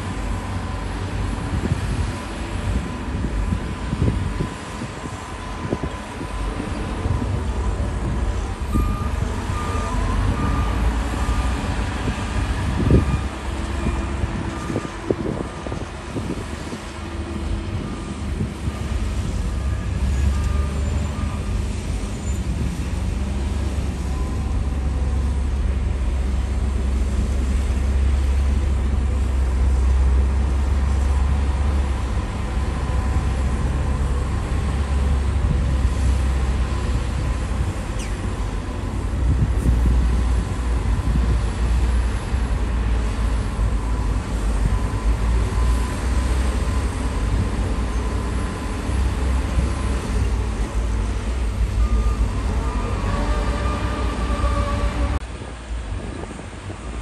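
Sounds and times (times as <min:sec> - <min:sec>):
heavy diesel engine rumbling: 0:00.0 - 0:57.0.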